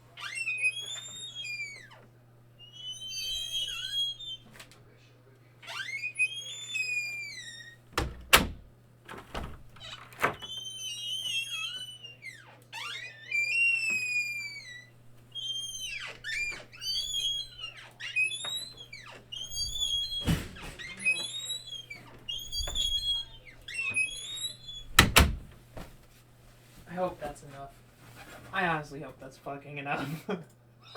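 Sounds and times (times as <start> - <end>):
door hinges creaking: 0.1 - 4.9, 5.6 - 25.9.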